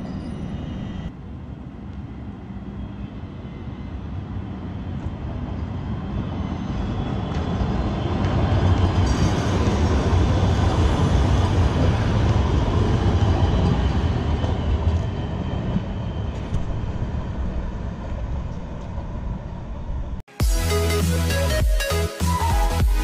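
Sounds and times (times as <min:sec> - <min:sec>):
light rail train rumbling past: 0:00.0 - 0:20.2.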